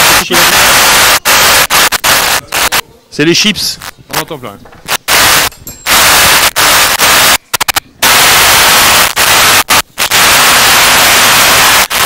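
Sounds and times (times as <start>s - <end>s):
loud microphone static hiss: 0.0s - 12.0s.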